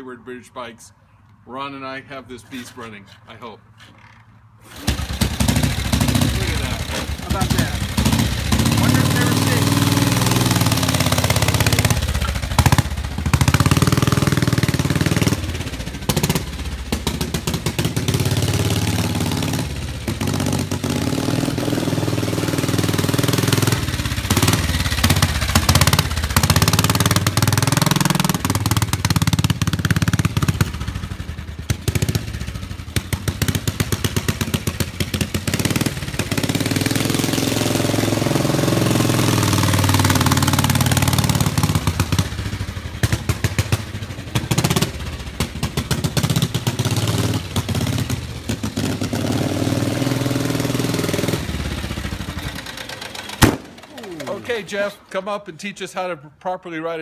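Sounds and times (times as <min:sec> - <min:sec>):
motorcycle engine running: 0:04.7 - 0:54.6.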